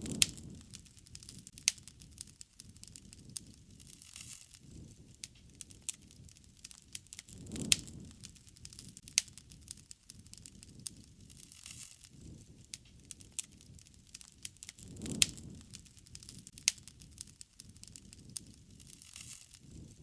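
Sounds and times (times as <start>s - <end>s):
fire crackles and pops: 0.0s - 20.0s
wood fire rumbling: 0.0s - 20.0s.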